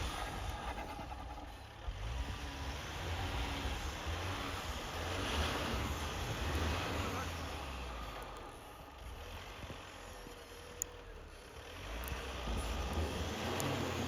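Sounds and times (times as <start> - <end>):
pickup engine running under load: 0.0 - 14.0.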